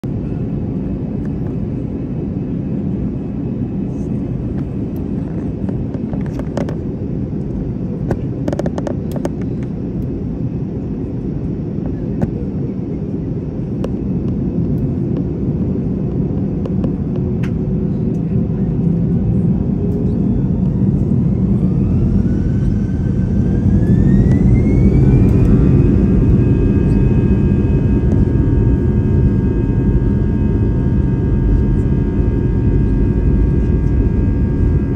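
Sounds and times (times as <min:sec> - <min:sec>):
jet engine whine: 0:00.0 - 0:34.9
jet engines rumbling: 0:00.0 - 0:34.9.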